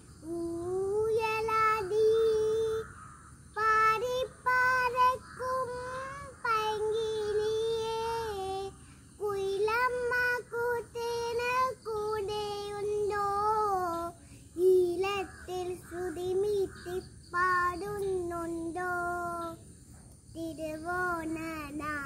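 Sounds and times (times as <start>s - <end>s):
girl singing unaccompanied: 0.0s - 22.0s.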